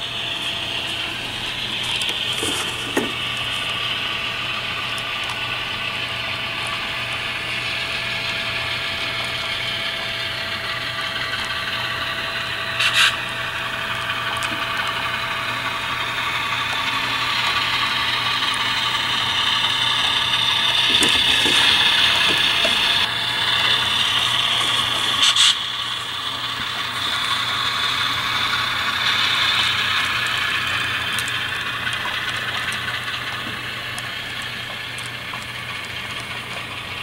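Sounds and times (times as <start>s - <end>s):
model diesel engine sound: 0.0s - 37.0s
model motor and wheels whirring: 0.0s - 37.0s.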